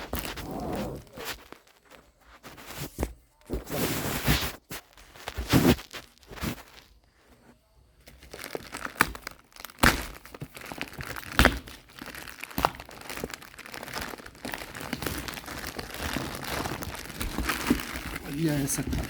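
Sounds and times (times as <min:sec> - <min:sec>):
packaging crinkling and rustling: 0:00.0 - 0:07.3, 0:08.0 - 0:19.0.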